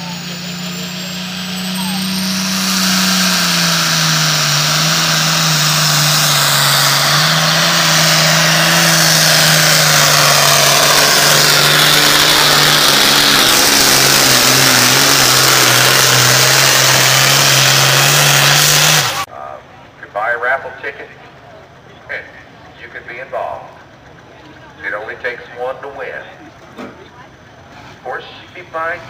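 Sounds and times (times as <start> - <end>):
diesel tractor engine at full throttle: 0.0 - 29.0.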